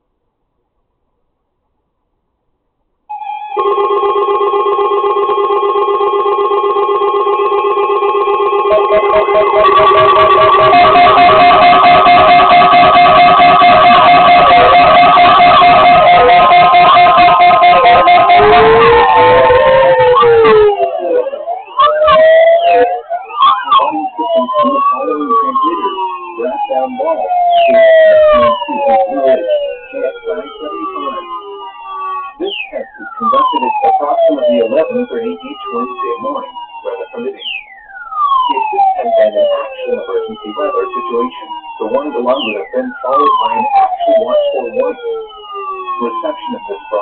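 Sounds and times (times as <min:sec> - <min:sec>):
pulsing electronic alarm tone: 0:03.1 - 0:47.0
rapid on-off beeping tone: 0:03.1 - 0:47.0
sirens wailing: 0:03.1 - 0:47.0.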